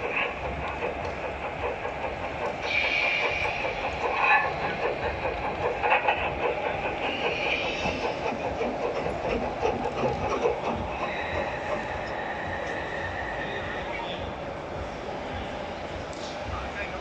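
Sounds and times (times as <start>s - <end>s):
hiss: 0.0s - 13.8s
train wheels clicking over track: 0.0s - 17.0s.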